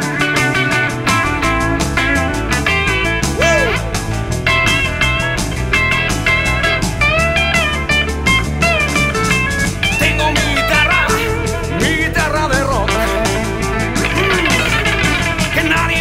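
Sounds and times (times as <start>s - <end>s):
bass guitar: 0.0s - 16.0s
drums: 0.0s - 16.0s
lead guitar with bent notes: 0.0s - 16.0s.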